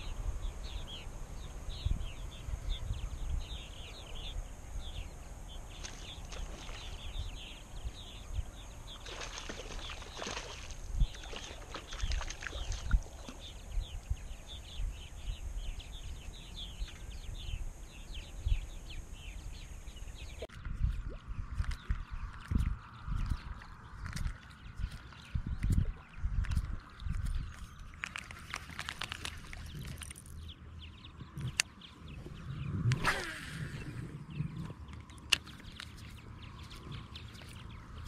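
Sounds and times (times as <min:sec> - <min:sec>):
birds chirping: 0:00.0 - 0:38.0
wind buffeting microphone: 0:00.0 - 0:38.0.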